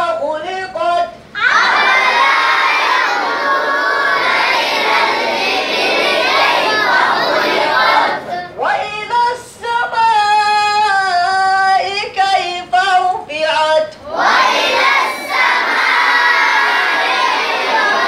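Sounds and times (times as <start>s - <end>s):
boys chanting recitation in unison: 0.0s - 18.0s.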